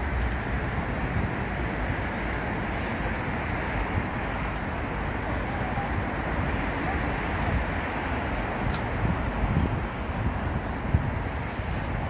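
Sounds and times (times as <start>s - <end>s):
bicycle rumble on paved path: 0.0s - 12.0s
wind on microphone: 0.0s - 12.0s.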